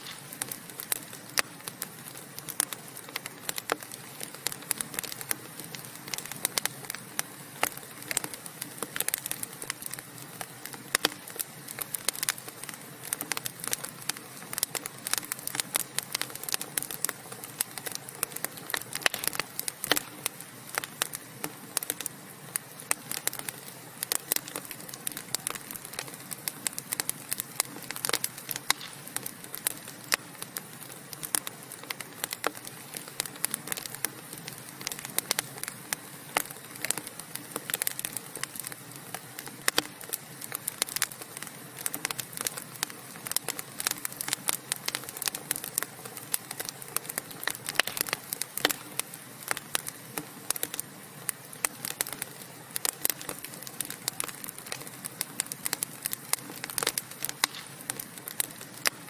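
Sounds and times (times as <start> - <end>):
fireplace logs crackling: 0.0 - 59.0.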